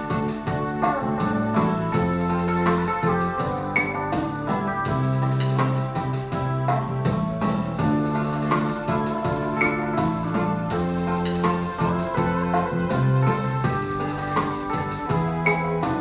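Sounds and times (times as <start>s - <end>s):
bolero auto-accompaniment: 0.0s - 16.0s
keyboard playing slow melody: 0.0s - 16.0s
steady drum beat: 0.0s - 16.0s.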